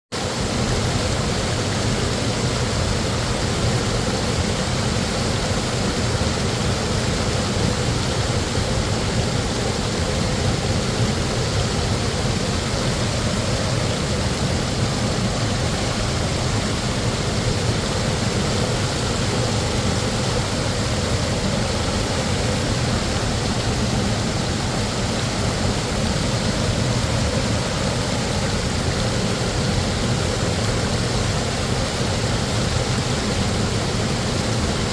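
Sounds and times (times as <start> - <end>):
waterfall roaring: 0.1 - 34.9.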